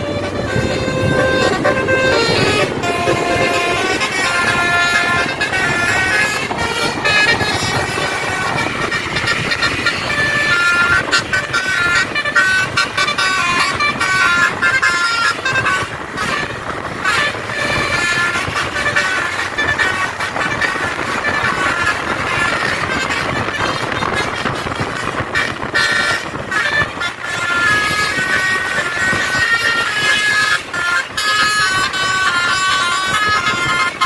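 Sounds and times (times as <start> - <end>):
engines and traffic rumble: 0.0 - 34.0
musical air horn tune: 0.0 - 34.0.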